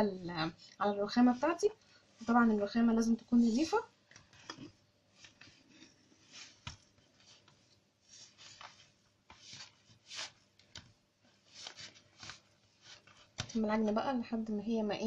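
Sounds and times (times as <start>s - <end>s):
hands kneading sticky dough: 0.0s - 14.1s.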